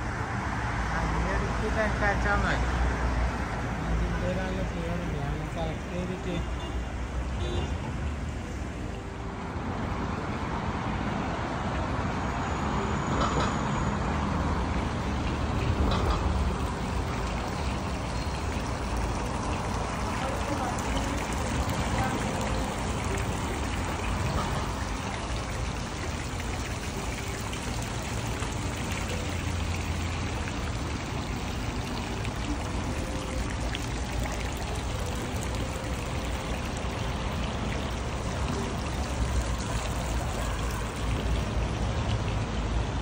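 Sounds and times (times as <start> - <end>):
fountain splashing into pool: 0.0 - 8.9, 14.0 - 43.0.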